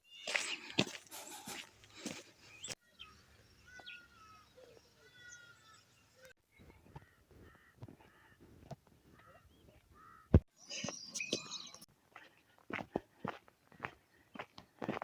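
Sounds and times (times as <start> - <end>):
faint bird calls: 0.1 - 12.7.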